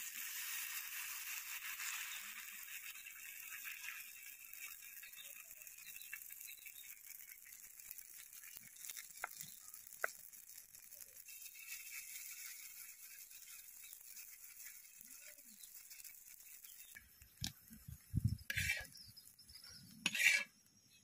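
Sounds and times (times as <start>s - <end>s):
fritters sizzling in hot oil: 0.0s - 21.0s.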